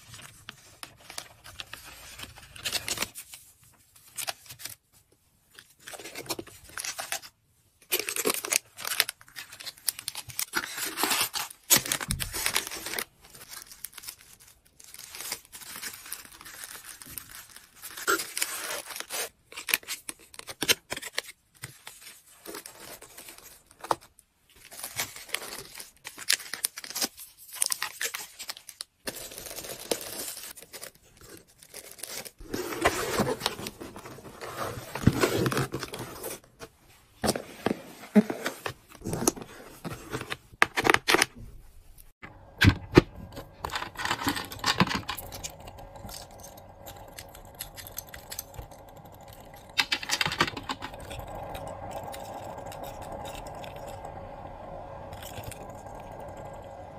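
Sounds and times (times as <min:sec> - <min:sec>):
paper and plastic rustling: 0:00.0 - 0:52.0.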